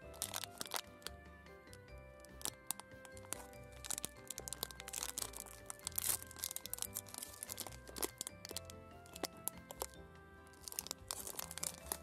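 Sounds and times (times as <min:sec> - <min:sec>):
background music: 0:00.0 - 0:12.0
plastic wrapper crinkling: 0:00.0 - 0:12.0.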